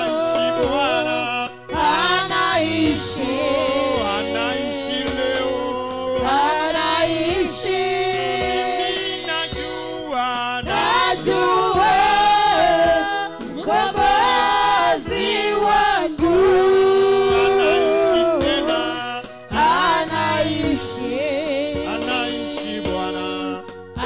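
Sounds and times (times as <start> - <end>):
group singing through microphones: 0.0 - 24.0.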